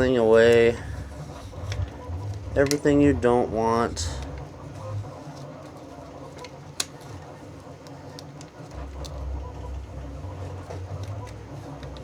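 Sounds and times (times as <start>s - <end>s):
low hum: 0.0s - 7.7s, 8.6s - 12.0s
vinyl peeling off backing: 0.0s - 12.0s.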